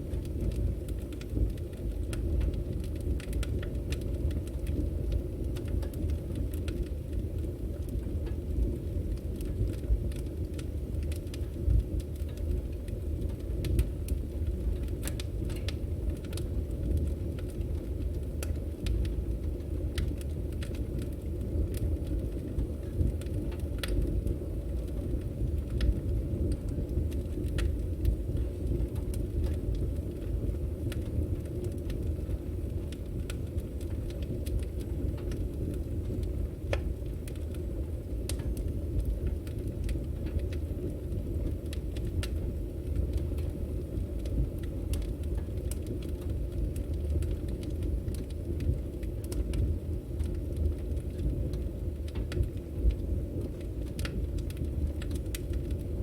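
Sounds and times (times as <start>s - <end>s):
logs crackling and popping: 0.0s - 56.0s
rumble of fire flames: 0.0s - 56.0s.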